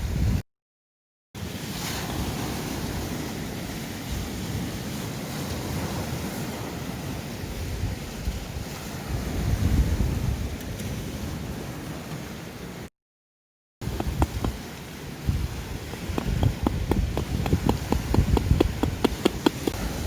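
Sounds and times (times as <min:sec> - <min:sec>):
wind buffeting microphone: 0:00.0 - 0:00.4, 0:02.1 - 0:11.9, 0:13.8 - 0:20.0
sea waves washing on shore: 0:01.4 - 0:12.9, 0:13.8 - 0:20.0.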